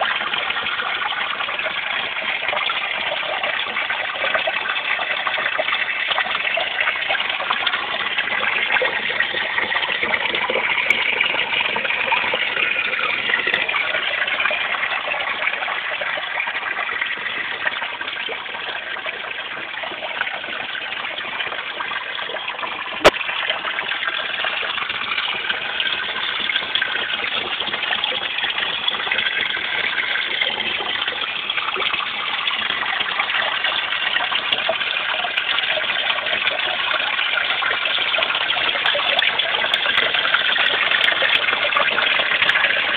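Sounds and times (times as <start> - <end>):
pond water gushing and splashing: 0.0 - 42.9.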